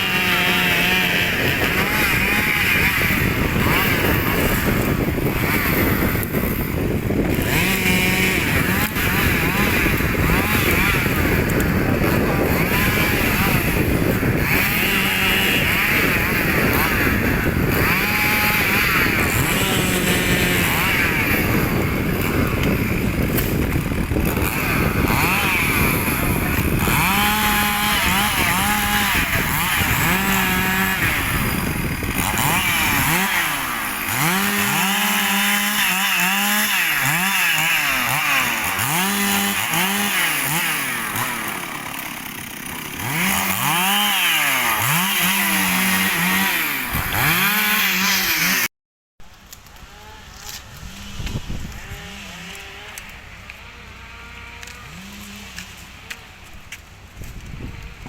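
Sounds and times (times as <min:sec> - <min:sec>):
chainsaw revving cutting wood: 0:00.0 - 0:48.7, 0:49.3 - 0:58.0.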